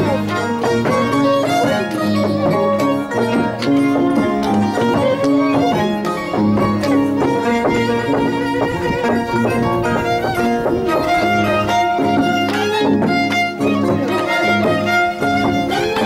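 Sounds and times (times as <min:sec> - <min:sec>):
held low notes: 0:00.0 - 0:16.0
violin sliding melody: 0:00.0 - 0:16.0.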